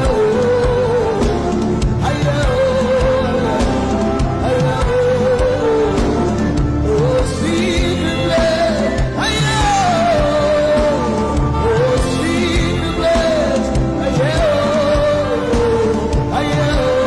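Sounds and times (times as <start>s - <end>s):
person singing worship music: 0.0s - 17.0s.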